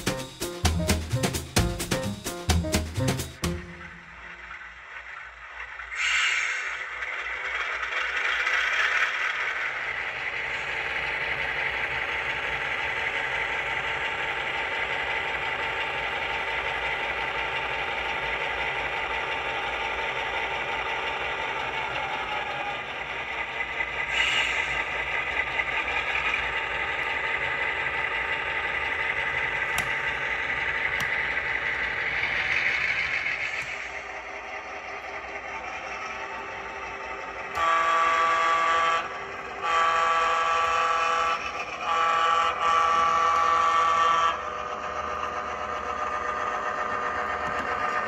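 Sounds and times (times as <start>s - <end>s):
model train rattling: 0.0s - 48.0s.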